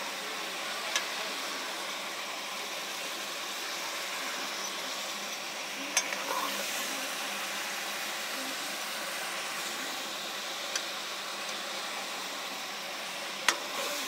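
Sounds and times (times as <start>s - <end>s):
chicken sizzling in hot oil: 2.6s - 14.0s.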